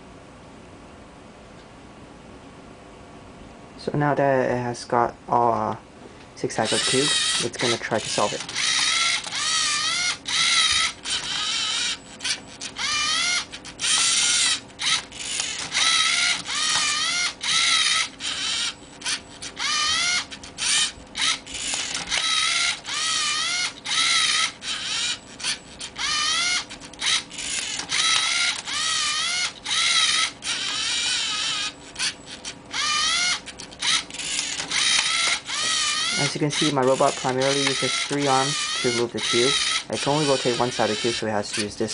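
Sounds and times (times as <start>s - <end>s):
motor clicks: 6.6s - 41.9s
servo motors whining: 6.6s - 41.9s.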